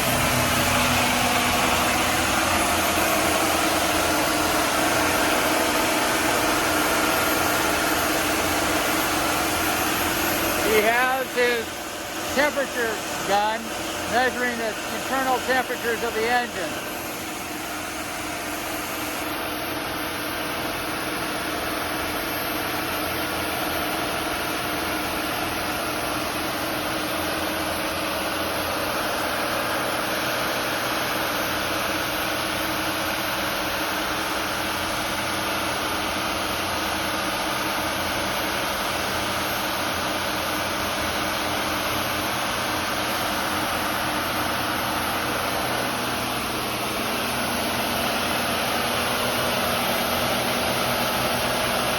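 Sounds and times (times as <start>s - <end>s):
boat engine running steadily: 0.0s - 51.9s.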